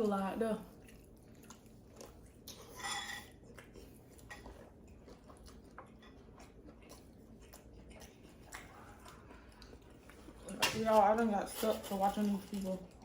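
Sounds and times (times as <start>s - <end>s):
faint chewing: 0.5s - 13.0s.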